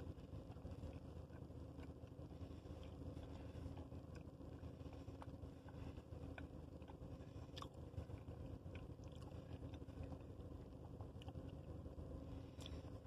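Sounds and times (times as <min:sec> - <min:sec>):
steady low hum: 0:00.0 - 0:13.0
person chewing: 0:00.4 - 0:11.8, 0:12.5 - 0:13.0.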